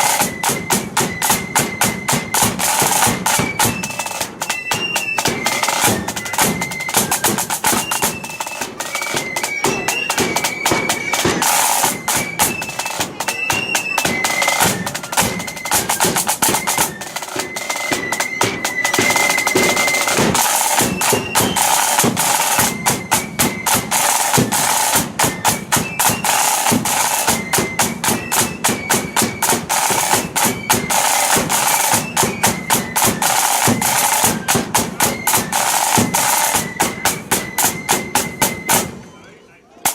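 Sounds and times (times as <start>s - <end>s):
snare drums: 0.0s - 39.2s
flutes playing a tune: 0.0s - 39.9s.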